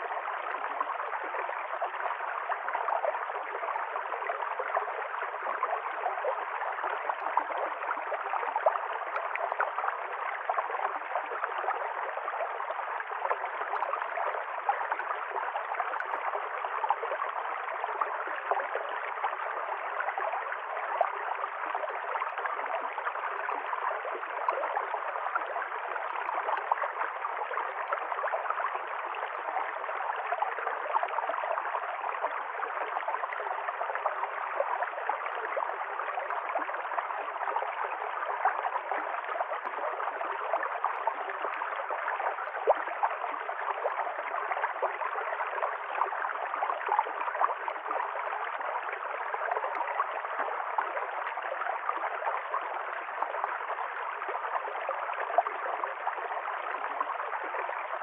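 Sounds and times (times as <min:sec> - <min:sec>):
stream flowing and gurgling: 0:00.0 - 0:58.0.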